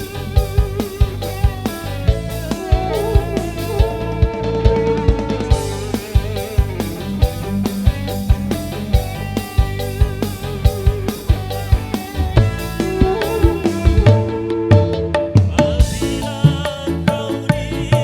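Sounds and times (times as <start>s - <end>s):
bass: 0.0s - 18.0s
guitar melody: 0.0s - 18.0s
steady drum beat: 0.0s - 18.0s.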